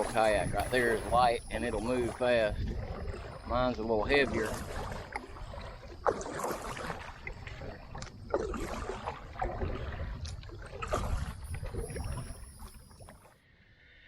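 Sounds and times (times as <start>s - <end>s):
wind rumble on microphone: 0.0s - 13.2s
paddle splashing in water: 0.0s - 13.3s.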